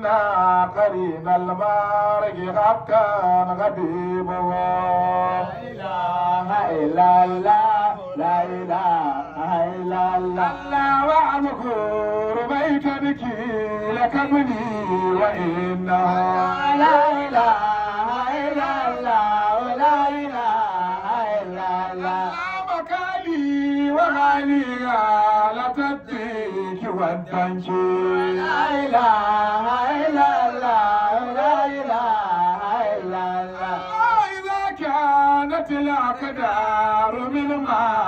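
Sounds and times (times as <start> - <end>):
man singing into microphone: 0.0 - 38.0.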